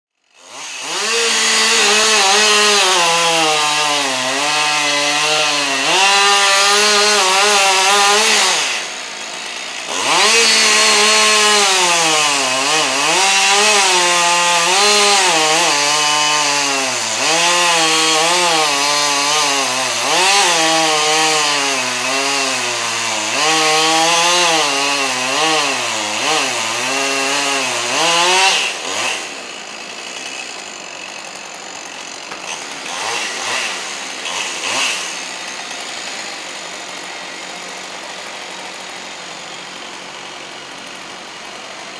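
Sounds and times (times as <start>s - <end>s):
chainsaw cutting wood: 0.2s - 41.9s.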